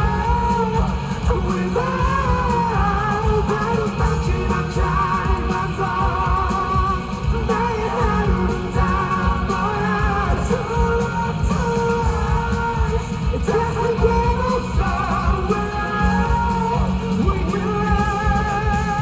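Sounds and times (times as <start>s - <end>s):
live pop-rock band: 0.0s - 19.0s
man singing with vibrato: 0.0s - 19.0s.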